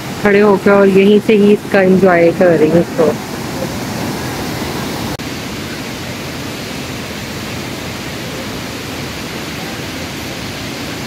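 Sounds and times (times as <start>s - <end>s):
river rapids roaring: 0.0s - 11.0s.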